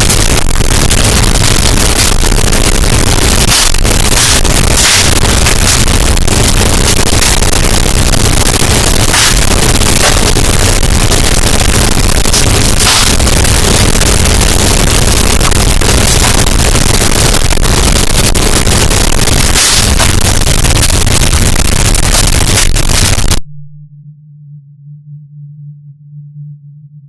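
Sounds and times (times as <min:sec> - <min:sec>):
distorted fireplace crackle: 0:00.0 - 0:23.4
steady low hum: 0:00.0 - 0:27.0.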